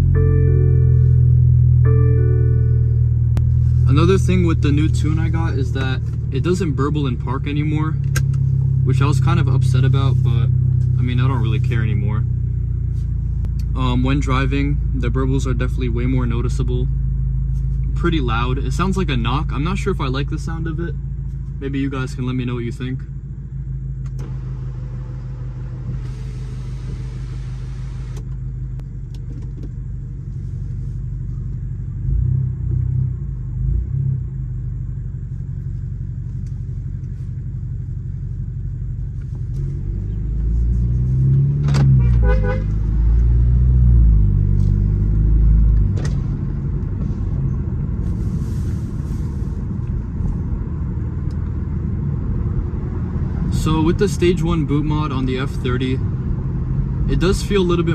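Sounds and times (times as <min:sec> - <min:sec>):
car engine revving: 0:00.0 - 0:21.0, 0:23.6 - 0:28.3, 0:36.3 - 0:57.9.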